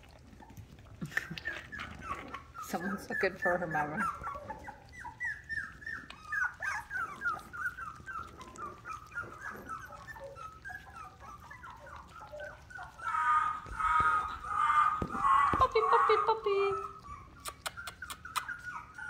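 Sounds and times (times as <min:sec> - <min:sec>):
puppy whimpering: 0:00.0 - 0:19.0.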